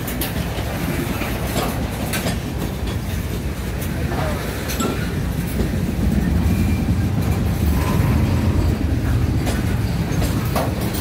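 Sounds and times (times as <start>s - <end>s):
clicks over rail joints: 0.0s - 6.5s, 7.1s - 11.0s
steel wheels rumbling on rail: 0.0s - 11.0s.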